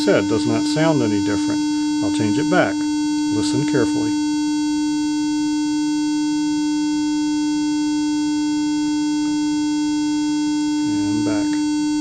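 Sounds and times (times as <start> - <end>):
square-wave test tone: 0.0 - 12.0.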